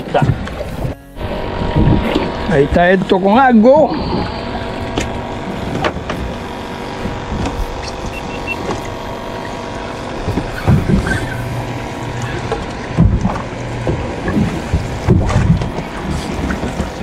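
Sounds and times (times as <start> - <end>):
boat motor idling: 0.0 - 17.0.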